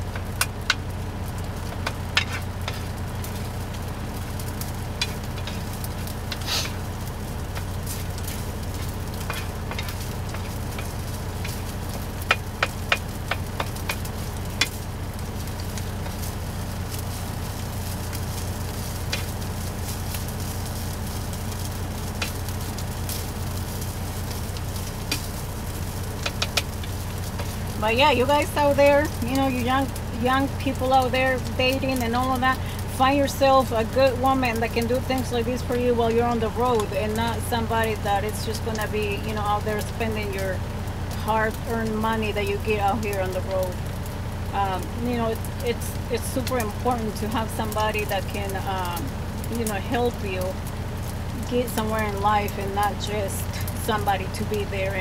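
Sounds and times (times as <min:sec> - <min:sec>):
rice sizzling in a skillet: 0:00.0 - 0:55.0
steady low hum: 0:00.0 - 0:55.0.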